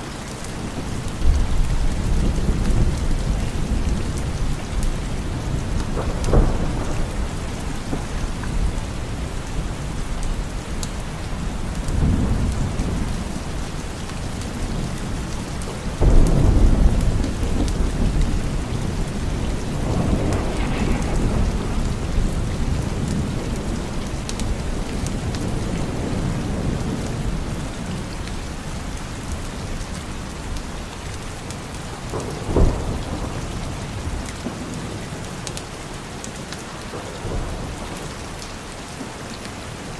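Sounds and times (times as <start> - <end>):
steady rain: 0.0 - 39.9
thunder rumbling: 0.6 - 35.7, 36.7 - 38.7.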